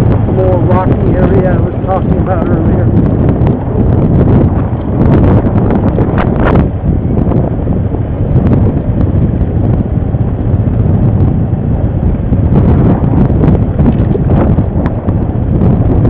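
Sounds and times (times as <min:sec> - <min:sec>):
atv engine running: 0:00.0 - 0:16.0
wind buffeting microphone: 0:00.0 - 0:16.0.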